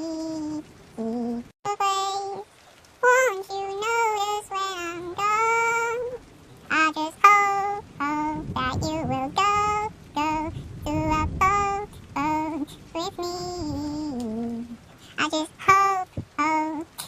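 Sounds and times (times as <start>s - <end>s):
high-pitched voice singing: 0.0s - 17.0s.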